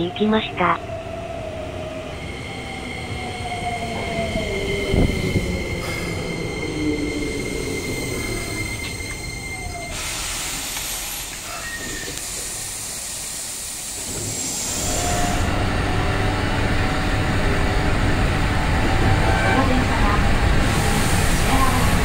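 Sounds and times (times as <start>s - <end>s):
train rolling noise: 0.0s - 22.0s.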